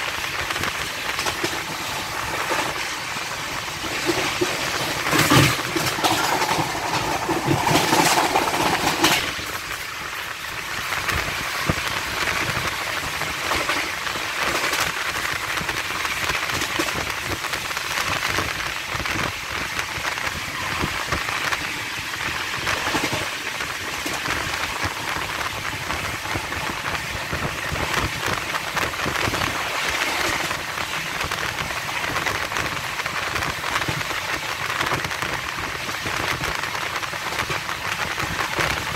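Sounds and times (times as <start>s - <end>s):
train rushing on rails: 0.0s - 38.9s.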